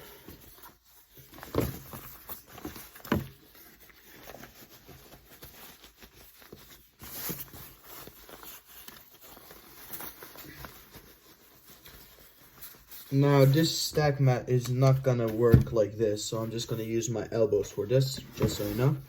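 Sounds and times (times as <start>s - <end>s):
gloves rustling and rubbing: 0.0s - 19.0s.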